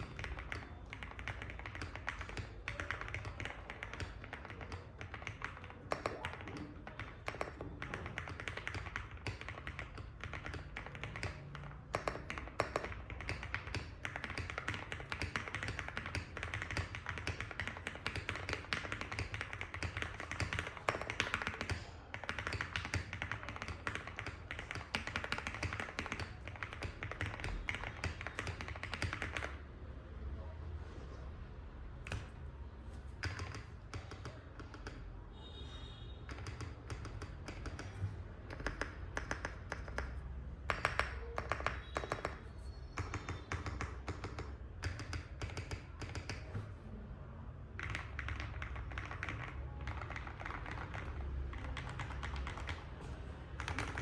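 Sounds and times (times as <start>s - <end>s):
mechanical keyboard typing: 0.0s - 29.6s, 32.0s - 35.5s, 36.2s - 46.8s, 47.7s - 54.0s.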